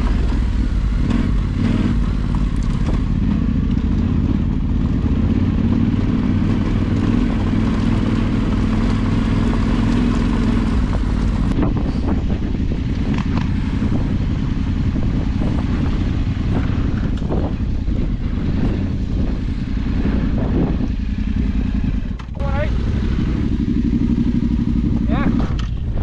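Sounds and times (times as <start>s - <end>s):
motorcycle engine under load: 0.0s - 26.0s.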